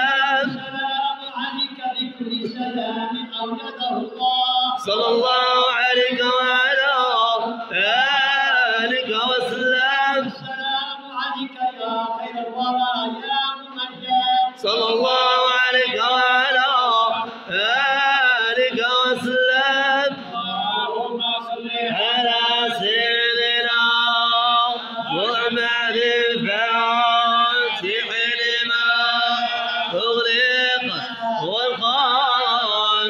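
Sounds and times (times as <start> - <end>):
men chanting a devotional song: 0.0 - 33.0.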